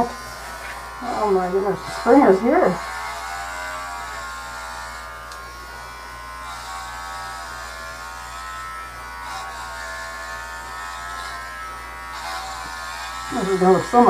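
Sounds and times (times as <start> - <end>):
pet hair clippers buzzing: 0.0 - 14.0.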